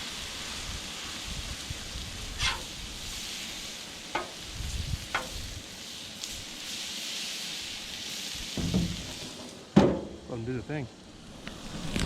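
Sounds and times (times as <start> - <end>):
meat sizzling on griddle: 0.0 - 10.2.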